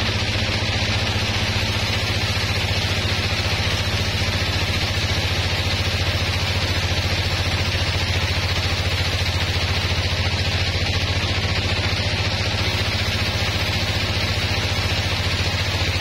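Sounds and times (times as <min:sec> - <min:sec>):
band saw cutting wood: 0:00.0 - 0:16.0.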